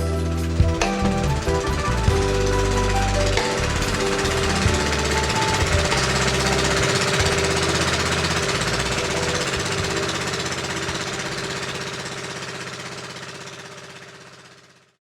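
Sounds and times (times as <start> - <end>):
fast rattling pulse: 0.0 - 14.8.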